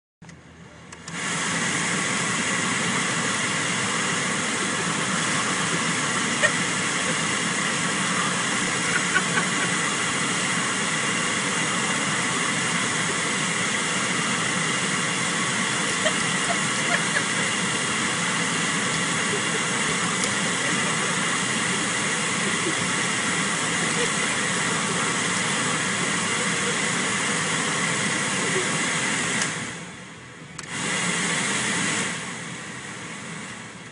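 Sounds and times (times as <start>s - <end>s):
car engine idling: 0.9s - 30.6s
car air blower rushing: 0.9s - 33.9s.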